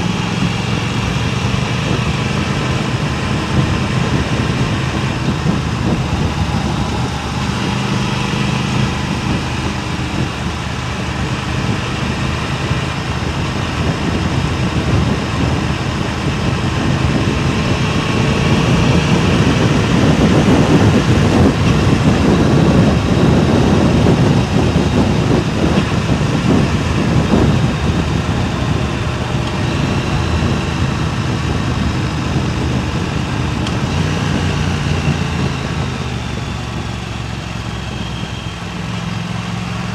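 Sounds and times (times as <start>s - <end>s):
vehicle engine running: 0.0s - 39.9s
wind buffeting microphone: 0.0s - 39.9s.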